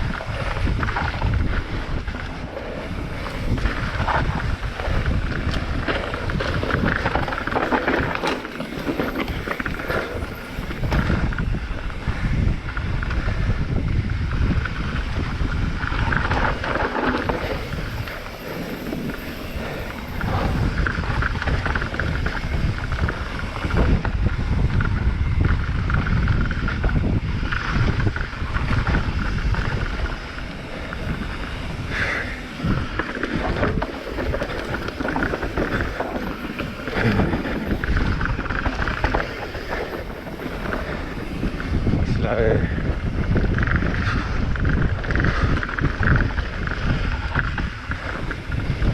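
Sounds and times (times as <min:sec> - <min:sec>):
bike tyres rumbling on rocky ground: 0:00.0 - 0:48.9
wind buffeting microphone: 0:00.0 - 0:48.9.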